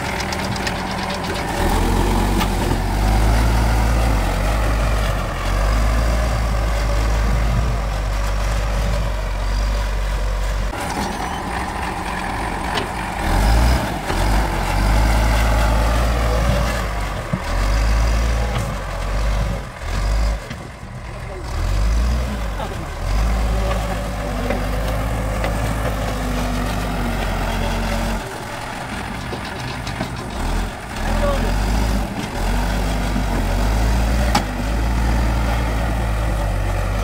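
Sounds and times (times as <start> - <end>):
diesel engine rumbling under load: 0.0 - 37.0.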